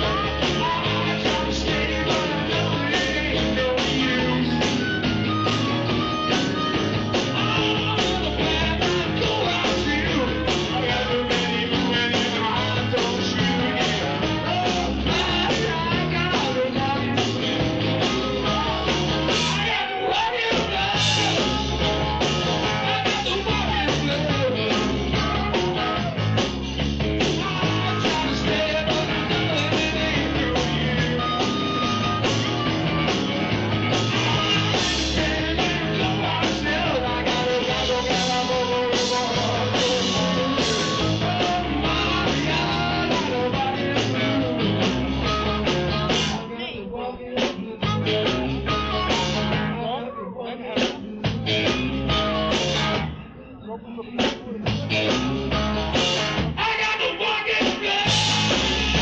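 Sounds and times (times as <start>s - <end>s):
blues-rock band playing live: 0.0s - 59.0s
person singing: 0.0s - 59.0s.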